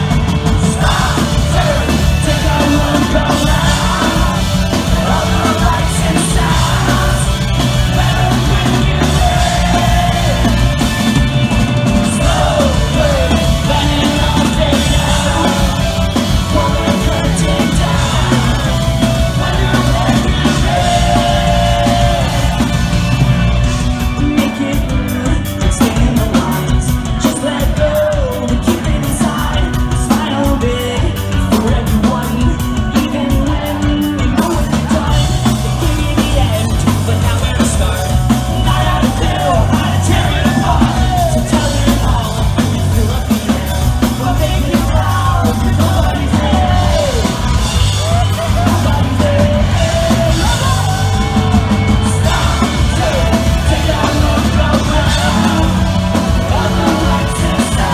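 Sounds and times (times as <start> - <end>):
lead singing: 0.0 - 57.9
live pop-punk band: 0.0 - 57.9.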